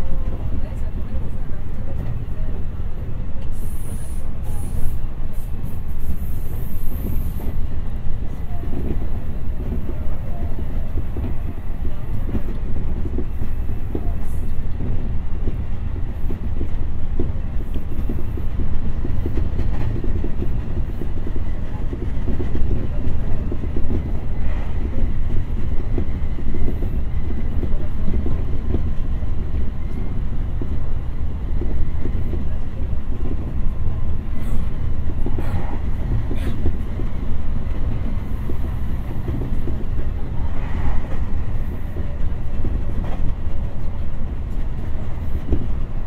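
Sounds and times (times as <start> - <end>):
train car rattling: 0.0 - 46.0
train wheels rumbling on rail: 0.0 - 46.0.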